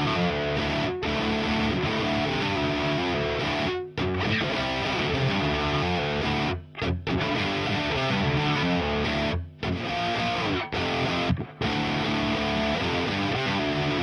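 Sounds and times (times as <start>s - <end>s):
distorted electric guitar riff: 0.0s - 14.0s.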